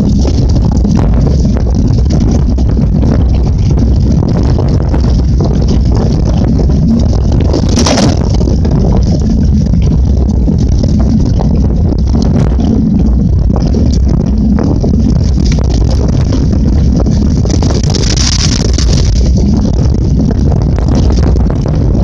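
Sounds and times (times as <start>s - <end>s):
bike tyres rumbling and rattling: 0.0s - 22.0s
sharp clatter: 0.0s - 22.0s
wind buffeting microphone: 0.0s - 22.0s.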